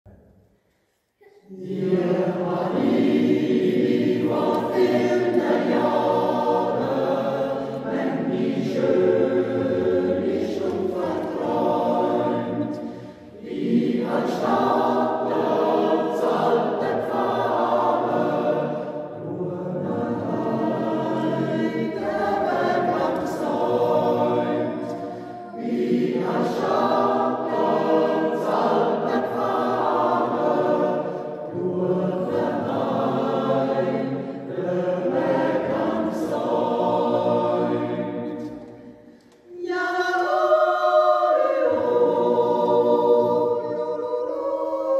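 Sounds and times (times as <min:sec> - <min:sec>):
choir yodelling a cappella: 0:01.2 - 0:44.9.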